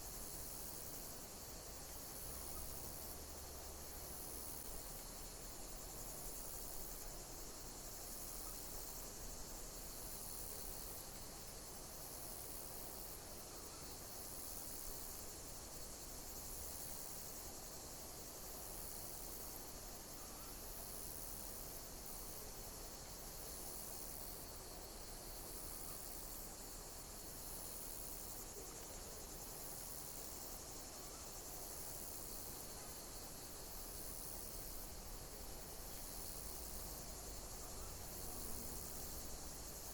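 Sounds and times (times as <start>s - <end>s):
faint low background hiss: 0.0s - 39.9s
insect chirp pulses: 0.0s - 39.9s
insects chirring: 0.0s - 39.9s.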